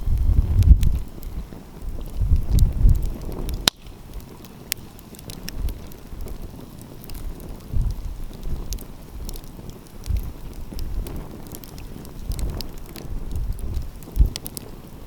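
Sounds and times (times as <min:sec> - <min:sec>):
wind gusts on microphone: 0:00.0 - 0:04.4, 0:05.2 - 0:15.0
wood fire crackling: 0:00.0 - 0:15.0.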